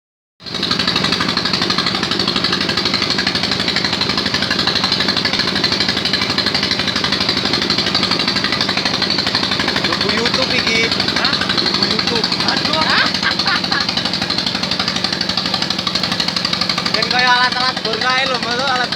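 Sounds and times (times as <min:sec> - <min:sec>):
drilling machine pulsing rattle: 0:00.4 - 0:18.9.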